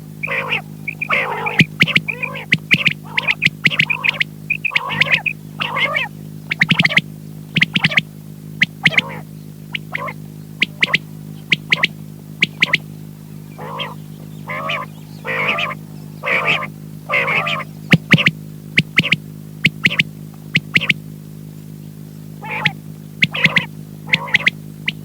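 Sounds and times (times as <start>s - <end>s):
electrical hum: 0.0s - 25.0s
quail calling: 0.1s - 21.0s, 22.4s - 25.0s.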